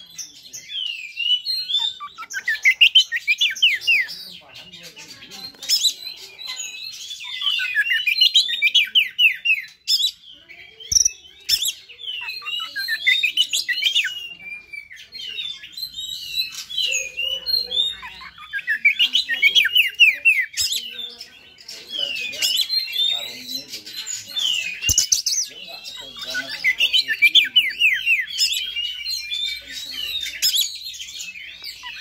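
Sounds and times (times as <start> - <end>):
magpie-robin singing: 0.0 - 32.0.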